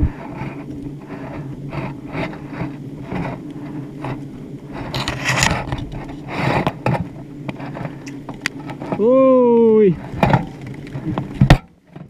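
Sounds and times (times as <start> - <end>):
scraping and rubbing: 0.0 - 9.2, 9.9 - 12.0
steady low hum: 0.0 - 12.0.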